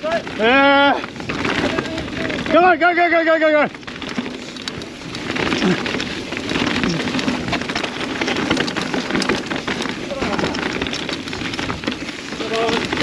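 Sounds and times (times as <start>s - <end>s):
bike tyres crackling over gravel: 0.0s - 13.0s.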